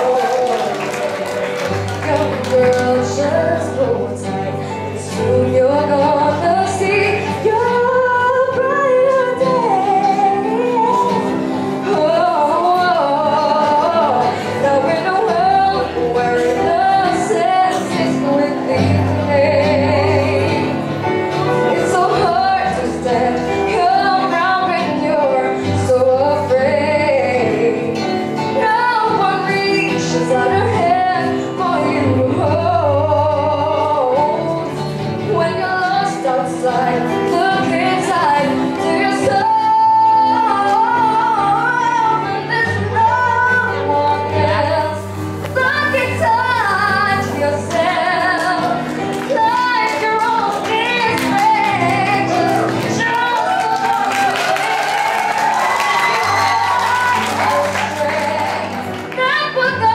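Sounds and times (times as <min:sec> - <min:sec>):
strummed acoustic guitar: 0:00.0 - 0:53.4
girl singing into a microphone: 0:02.0 - 0:54.4, 0:56.1 - 0:59.9.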